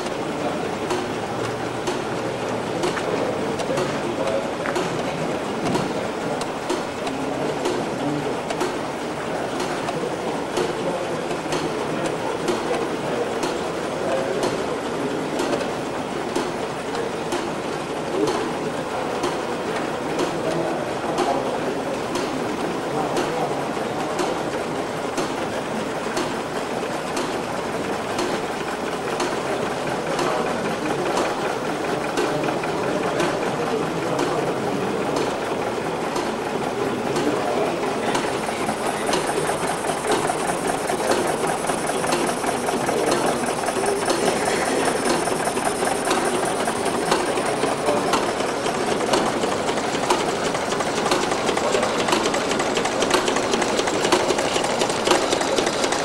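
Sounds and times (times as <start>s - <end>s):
small machine clattering: 0.0s - 56.0s.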